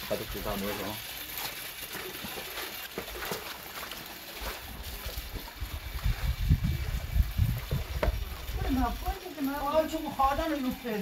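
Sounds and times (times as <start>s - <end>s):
water splashing and sloshing: 0.0s - 11.0s
wet leaves rustling: 0.0s - 11.0s.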